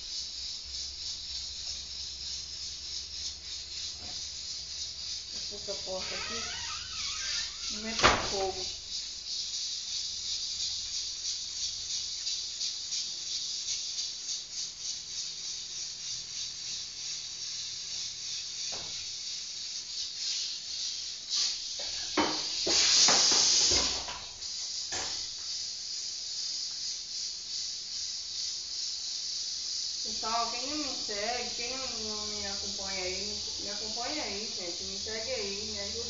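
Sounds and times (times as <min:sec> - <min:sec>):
onion and garlic sizzling in pan: 0:00.0 - 0:36.0.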